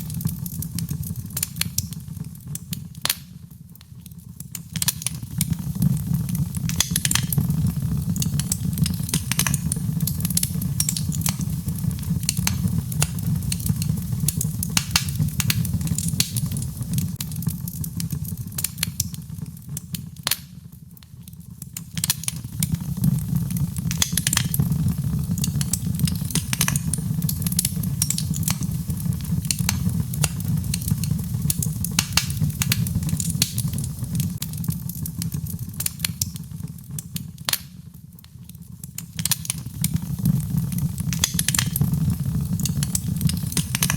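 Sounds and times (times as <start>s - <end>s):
logs crackling and popping: 0.0s - 43.9s
low rumble of flames: 0.0s - 43.9s.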